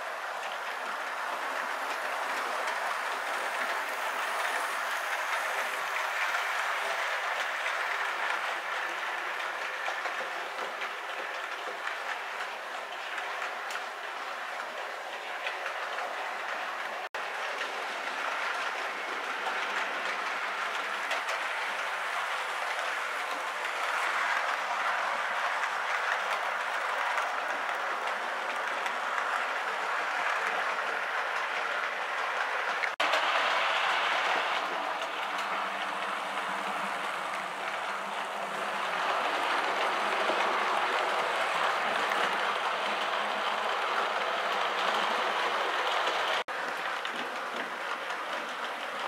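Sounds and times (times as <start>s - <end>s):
model train running on track: 0.0s - 49.0s.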